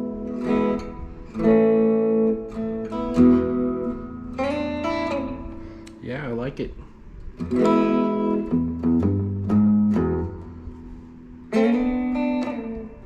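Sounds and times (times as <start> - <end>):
electric guitar strumming chords: 0.0 - 13.0.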